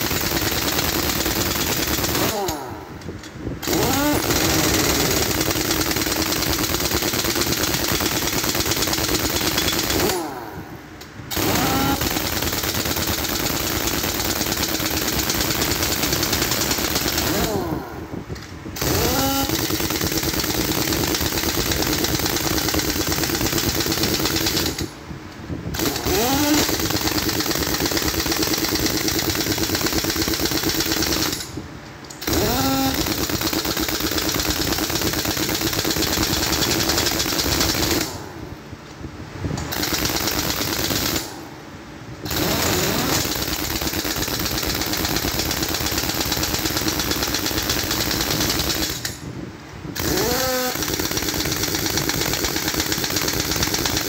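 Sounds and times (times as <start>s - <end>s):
impact wrench hammering: 0.0s - 10.4s, 11.3s - 17.8s, 18.7s - 24.9s, 25.8s - 38.2s, 42.3s - 49.3s, 50.0s - 54.0s.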